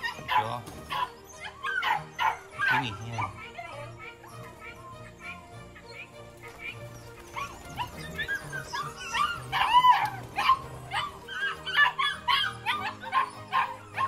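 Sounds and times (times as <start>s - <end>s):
background music: 0.0s - 14.0s
guineafowl yelping calls: 0.0s - 14.0s.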